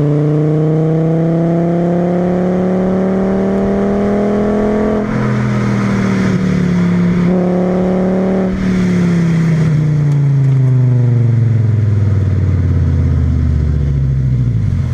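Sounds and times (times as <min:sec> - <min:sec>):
car engine running: 0:00.0 - 0:14.9.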